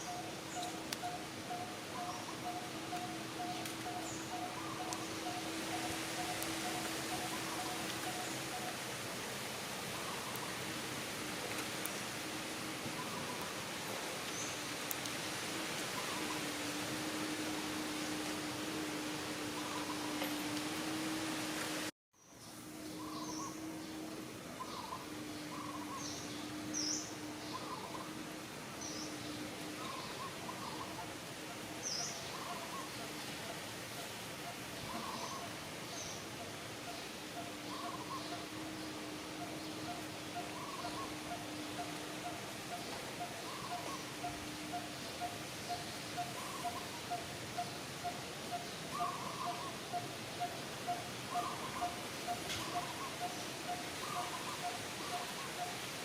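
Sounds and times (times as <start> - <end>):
steady outdoor hiss: 0.0 - 56.0.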